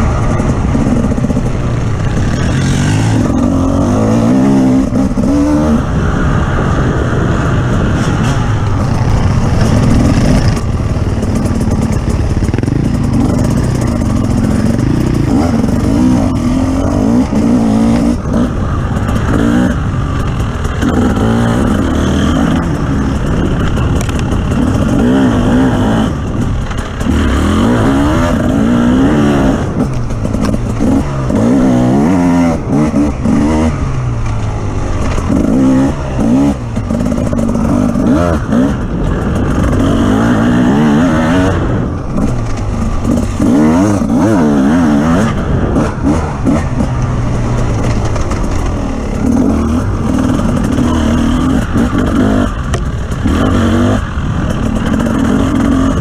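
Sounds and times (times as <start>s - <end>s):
off-road vehicle engine revving: 0.0s - 6.4s, 7.2s - 56.0s
vehicle rattling and clatter: 0.0s - 56.0s.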